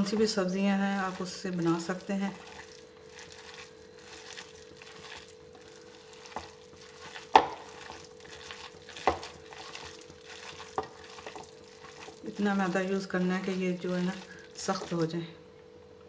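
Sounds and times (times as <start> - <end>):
hand squishing wet mixture: 0.0 - 15.2.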